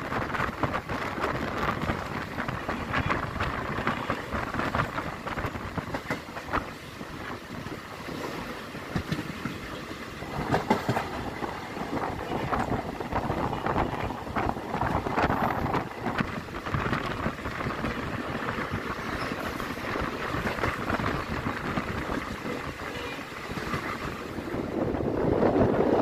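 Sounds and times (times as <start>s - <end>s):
train clacks and knocks: 0.0s - 26.0s
train wheels rumbling on rails: 0.0s - 26.0s.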